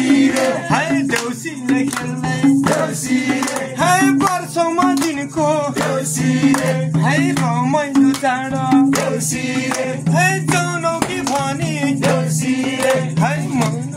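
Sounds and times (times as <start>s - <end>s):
person singing: 0.0s - 13.9s.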